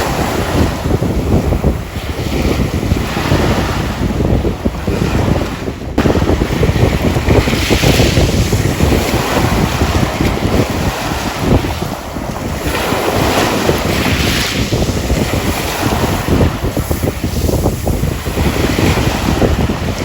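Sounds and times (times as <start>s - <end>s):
waves washing in: 0.0s - 20.0s
wind buffeting microphone: 0.0s - 20.0s.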